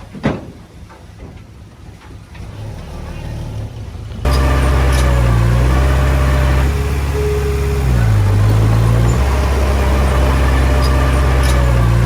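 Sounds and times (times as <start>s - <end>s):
heavy diesel engine running: 2.3s - 12.0s.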